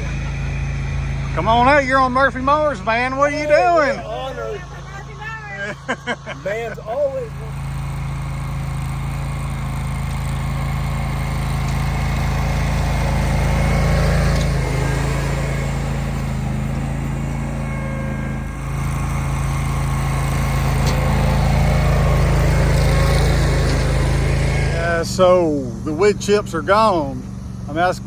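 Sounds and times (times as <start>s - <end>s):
garden tractor engine running: 0.0s - 28.0s.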